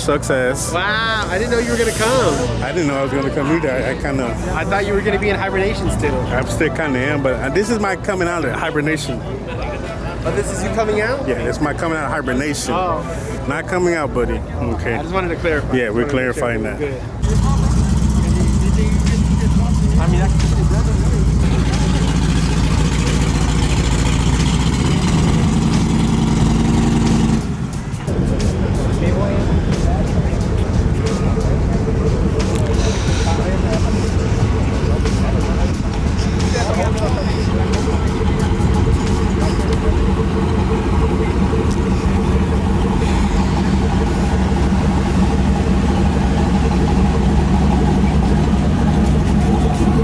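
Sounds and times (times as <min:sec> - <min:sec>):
vehicle engine idling: 0:00.0 - 0:13.7, 0:17.0 - 0:50.0.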